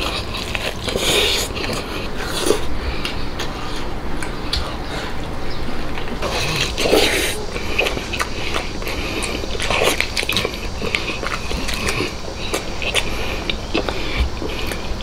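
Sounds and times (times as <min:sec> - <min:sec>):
man chewing meat: 0:00.0 - 0:15.0.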